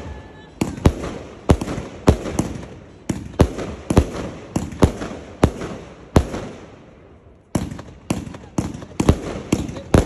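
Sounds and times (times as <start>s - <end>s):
firework bangs with crackle: 0.0s - 10.0s.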